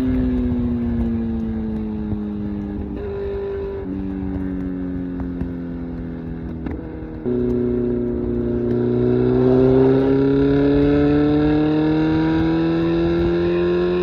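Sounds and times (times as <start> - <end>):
motorcycle engine decelerating: 0.0 - 14.0.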